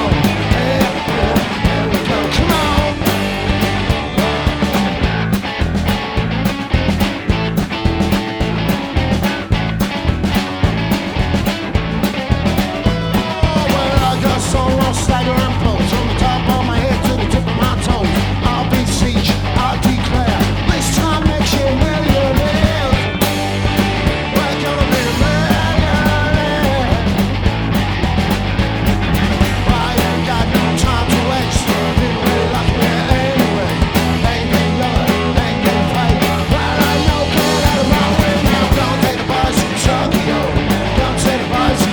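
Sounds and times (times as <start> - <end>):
rock band playing live: 0.0 - 41.9.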